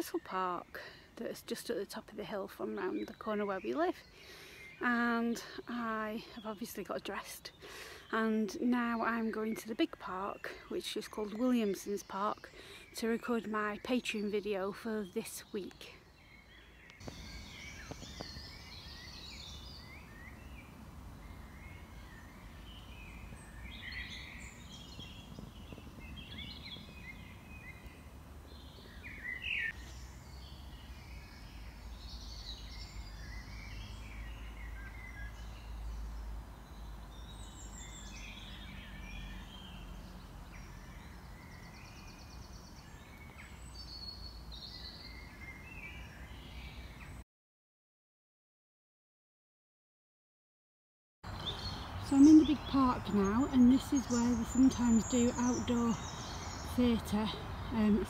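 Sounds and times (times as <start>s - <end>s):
songbirds singing and chirping: 0.0s - 47.2s, 51.2s - 58.0s.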